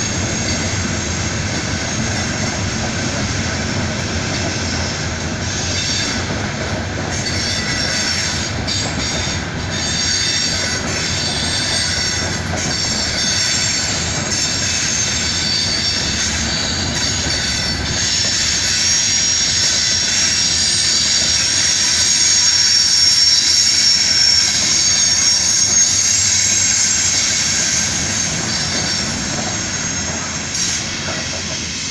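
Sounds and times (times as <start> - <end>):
steel wheels rumbling on rail: 0.0 - 31.9
high-pitched wheel squeal: 4.4 - 6.3, 7.1 - 31.4.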